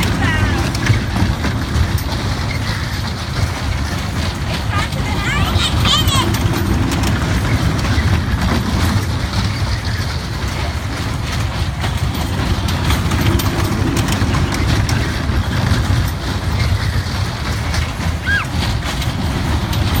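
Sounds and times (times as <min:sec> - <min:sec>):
toy train rumbling and clicking: 0:00.0 - 0:20.0.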